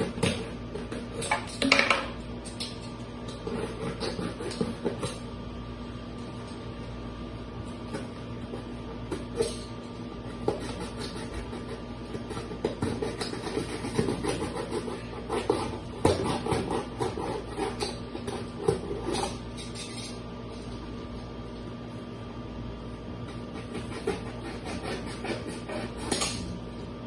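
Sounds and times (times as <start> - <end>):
steady background hum: 0.0 - 27.0.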